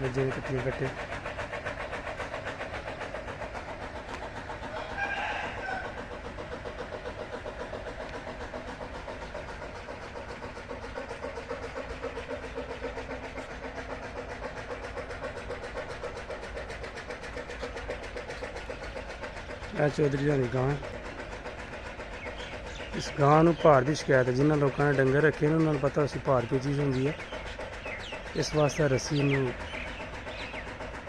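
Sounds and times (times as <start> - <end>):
engine running with rhythmic pulse: 0.0 - 31.0.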